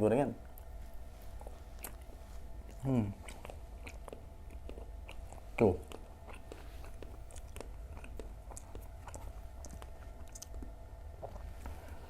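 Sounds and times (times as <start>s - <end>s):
close chewing and crunching: 0.4s - 12.0s.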